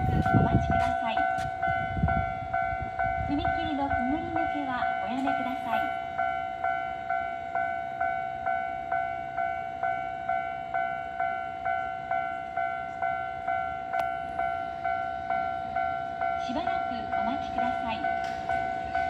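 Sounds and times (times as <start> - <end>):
level crossing warning bell: 0.0 - 19.0.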